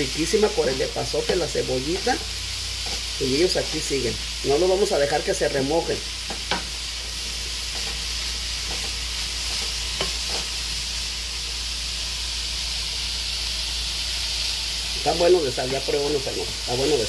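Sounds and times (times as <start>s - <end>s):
mushrooms and onion sizzling in oil: 0.0s - 17.0s.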